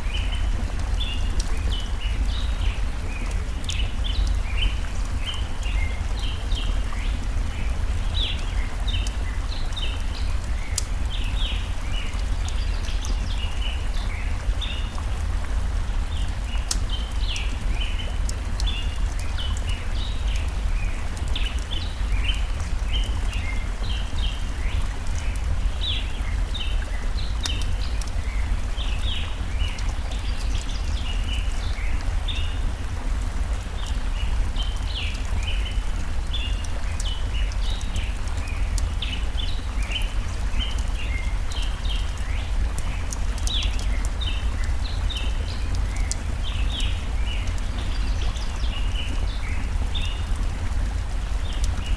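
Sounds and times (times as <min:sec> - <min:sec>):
campfire crackling: 0:00.0 - 0:51.9
stream water flowing: 0:00.0 - 0:51.9.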